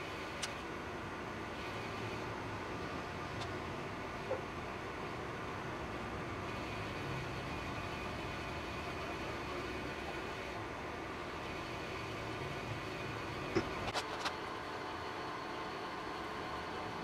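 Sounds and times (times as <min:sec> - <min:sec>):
background hiss and hum: 0:00.0 - 0:17.0.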